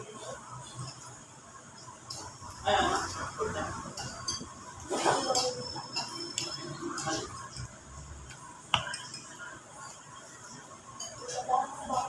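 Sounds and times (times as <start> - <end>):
cutlery clinking on ceramic dishes: 1.8 - 12.0.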